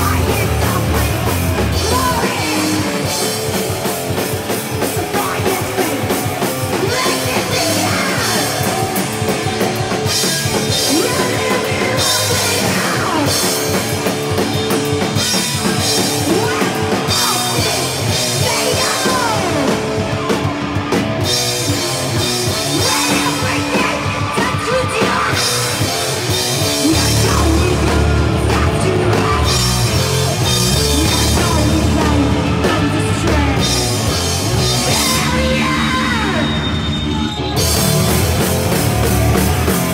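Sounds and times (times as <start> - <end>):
person singing: 0.0 - 9.9, 10.5 - 14.1, 15.2 - 20.4, 22.5 - 36.6
bass: 0.0 - 39.9
distorted electric guitar: 0.0 - 39.9
drum kit: 0.0 - 39.9.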